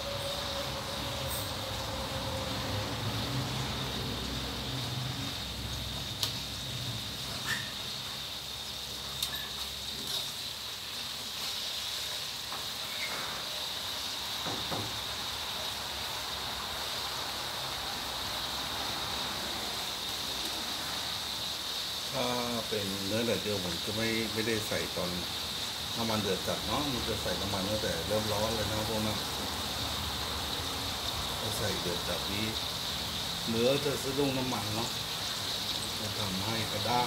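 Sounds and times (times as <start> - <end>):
food deep-frying in hot oil: 0.0 - 37.0.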